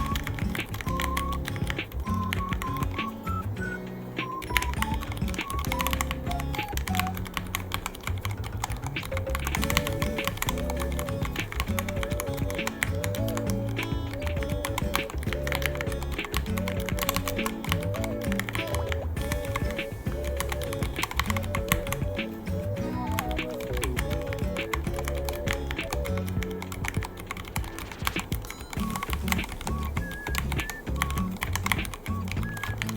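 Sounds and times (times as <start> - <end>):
background music: 0.0 - 32.9.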